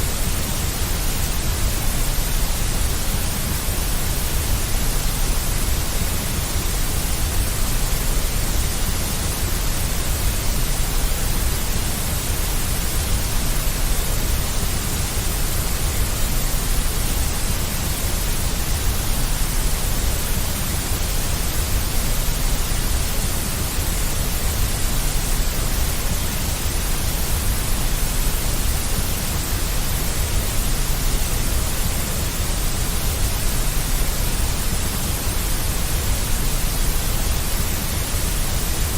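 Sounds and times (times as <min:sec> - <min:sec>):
deep white noise with rumble: 0:00.0 - 0:38.9.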